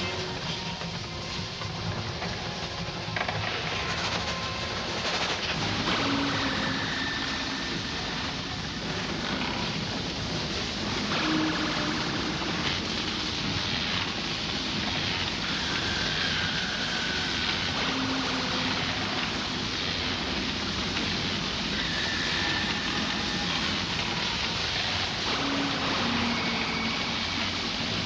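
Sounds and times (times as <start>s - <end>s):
electrical crackling hiss: 0.0s - 28.0s.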